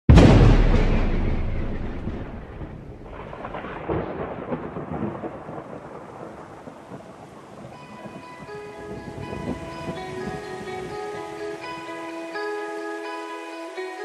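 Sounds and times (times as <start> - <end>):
thunder rumbling: 0.1 - 11.8
rain falling: 0.2 - 14.0.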